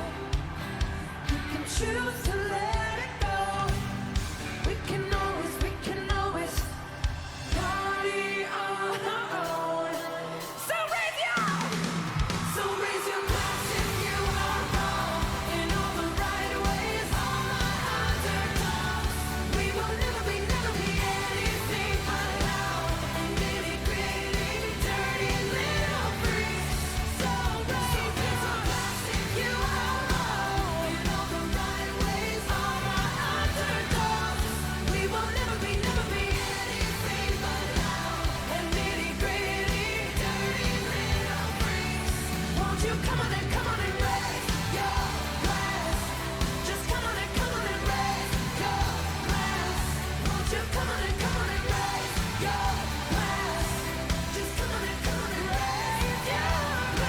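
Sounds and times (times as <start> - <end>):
pop music with sung vocal: 0.0 - 57.0.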